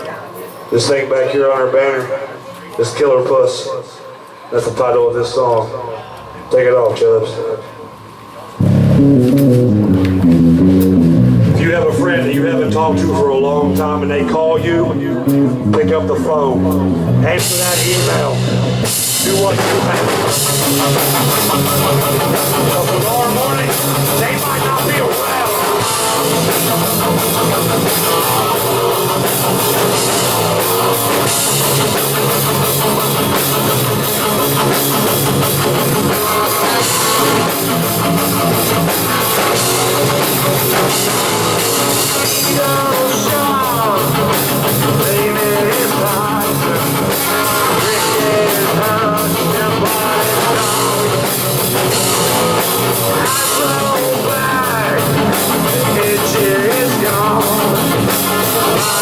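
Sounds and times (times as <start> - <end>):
electric guitar: 7.6 - 59.0
drum kit: 8.6 - 59.0.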